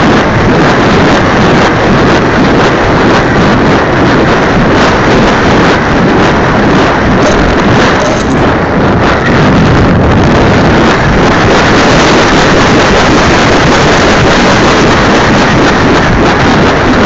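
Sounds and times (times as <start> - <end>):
model airplane engine running: 0.0 - 17.0
wind rushing over microphone: 0.0 - 17.0.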